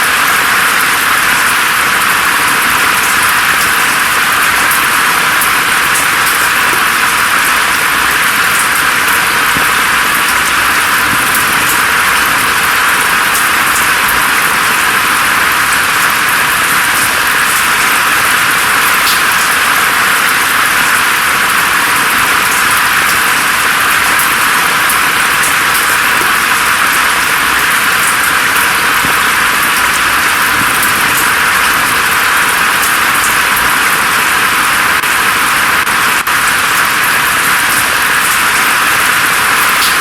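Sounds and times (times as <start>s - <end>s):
water drops ticking: 0.0s - 35.1s, 36.3s - 40.0s
rain falling through foliage: 0.0s - 40.0s.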